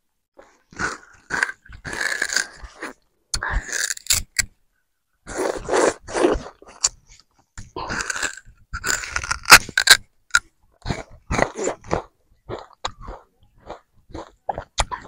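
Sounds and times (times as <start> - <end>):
person chewing sugarcane crunchily: 0.4 - 4.5, 5.3 - 15.0.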